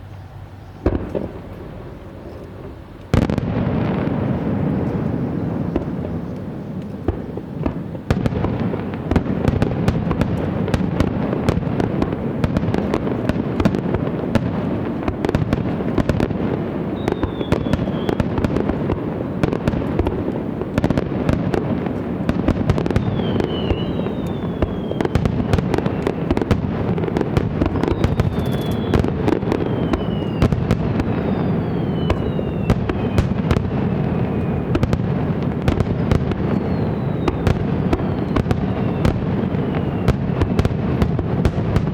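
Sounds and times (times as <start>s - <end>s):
fireworks bursts and crackling: 0.0s - 41.9s
fireworks falling whistles: 0.0s - 41.9s.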